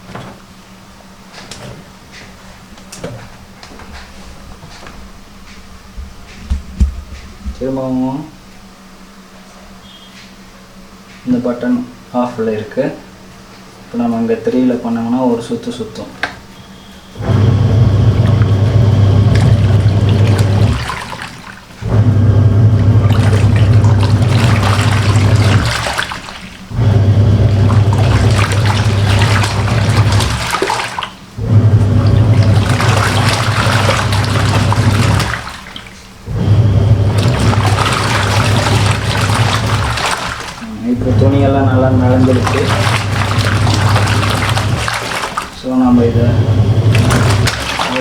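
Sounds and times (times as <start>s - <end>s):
water churning and sloshing: 0.0s - 8.0s, 14.4s - 48.0s
washing machine motor humming: 0.0s - 10.2s, 13.8s - 48.0s.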